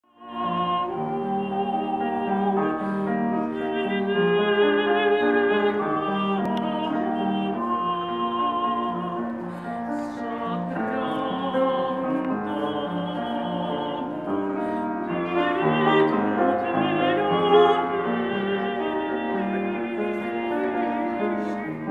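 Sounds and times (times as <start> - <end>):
piano playing chords: 0.1 - 21.9
woman singing opera: 0.1 - 21.9.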